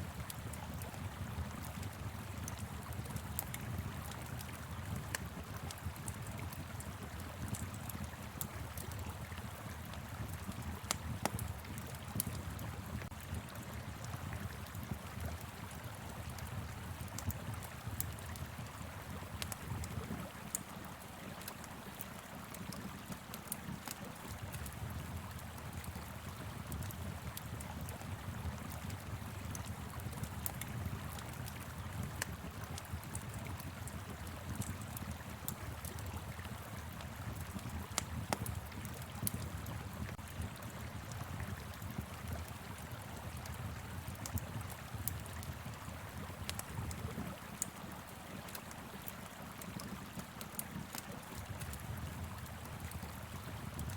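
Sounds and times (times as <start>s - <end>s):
wood fire crackling and popping: 0.1s - 53.9s.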